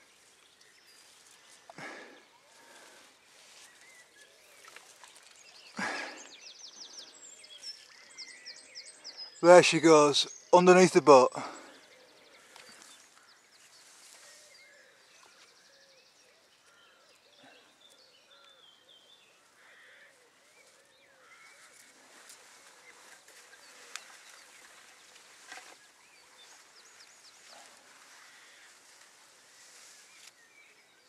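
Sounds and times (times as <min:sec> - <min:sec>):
faint bird calls and chirps: 0:00.0 - 0:31.0.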